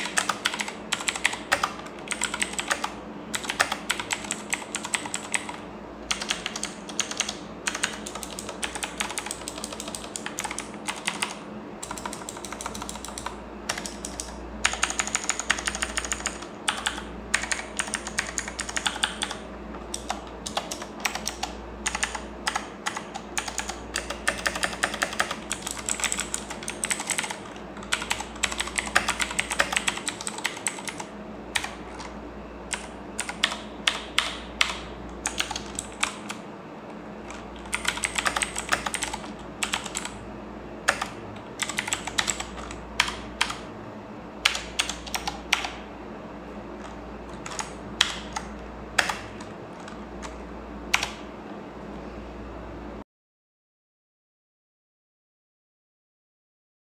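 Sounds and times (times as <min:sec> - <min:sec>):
mechanical keyboard clicking: 0:00.0 - 0:32.1, 0:32.7 - 0:36.4, 0:37.3 - 0:40.2, 0:40.9 - 0:43.6, 0:44.4 - 0:45.8, 0:46.8 - 0:51.2.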